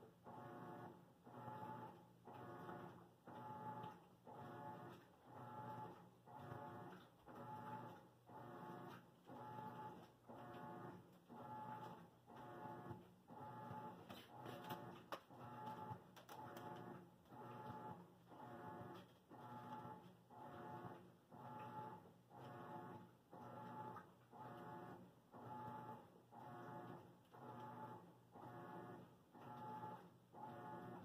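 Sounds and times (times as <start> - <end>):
washing machine motor whine: 0.2 - 31.0.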